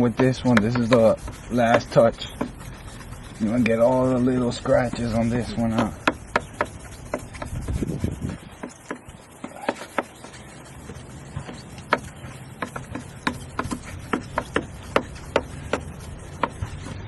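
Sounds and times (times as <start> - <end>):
sanding pad rubbing plastic: 0.0 - 17.0.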